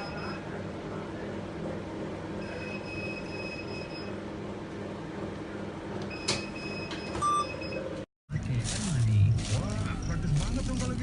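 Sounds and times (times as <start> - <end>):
cash machine hum: 0.0 - 11.0.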